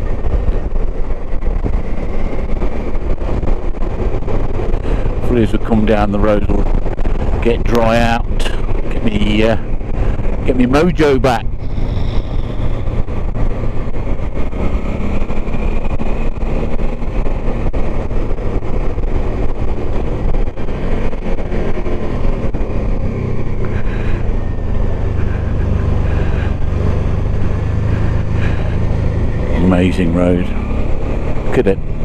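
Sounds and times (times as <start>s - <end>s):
motorcycle engine running: 0.0s - 32.0s
road noise: 0.0s - 32.0s
wind noise: 0.0s - 32.0s.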